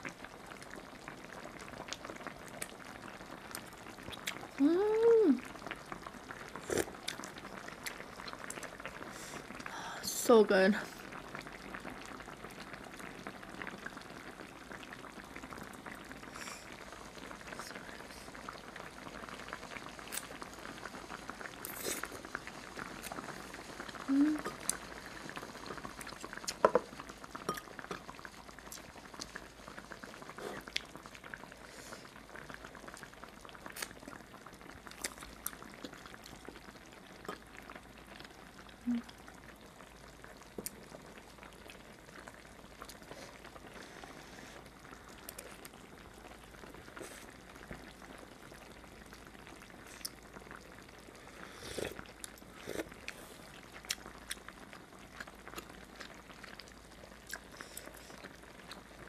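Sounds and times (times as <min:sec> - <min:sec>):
stew bubbling in a pot: 0:00.0 - 0:59.0.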